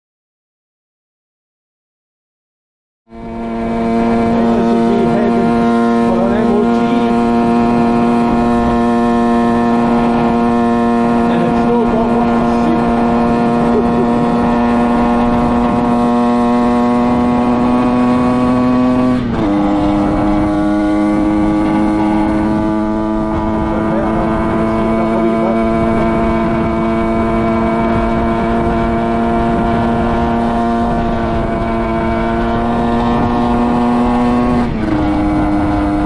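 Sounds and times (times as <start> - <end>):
motorcycle engine running: 3.1 - 36.0.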